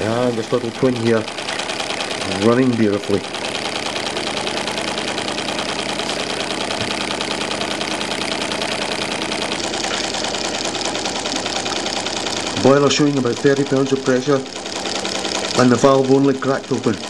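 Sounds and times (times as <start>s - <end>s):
steam engine rapid even beat: 0.0s - 17.0s.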